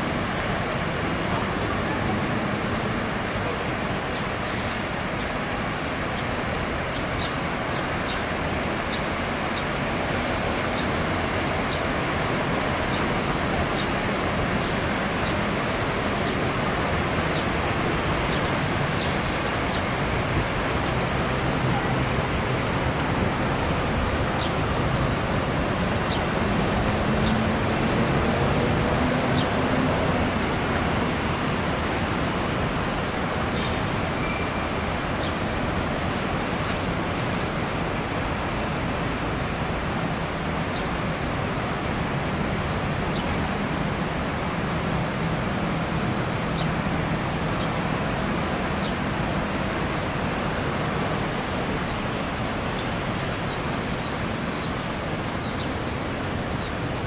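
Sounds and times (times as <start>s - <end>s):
street traffic noise: 0.0s - 57.0s.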